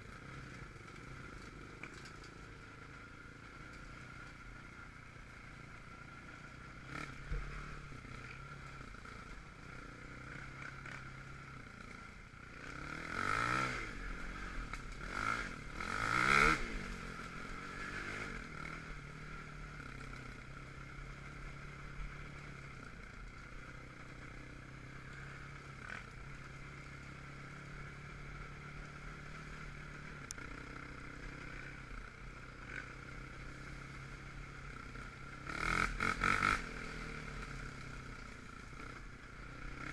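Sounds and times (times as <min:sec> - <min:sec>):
quad engine idling and revving: 0:00.0 - 0:39.9.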